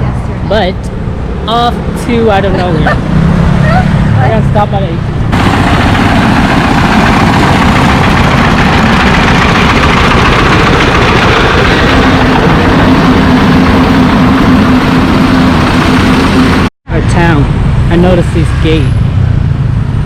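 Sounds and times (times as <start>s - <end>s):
steady low hum: 0.0s - 18.6s
vehicle engine and road noise: 0.0s - 20.0s.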